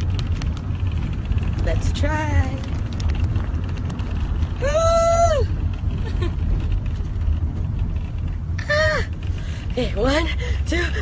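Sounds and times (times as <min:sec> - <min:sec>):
engine and road rumble in cabin: 0:00.0 - 0:11.0.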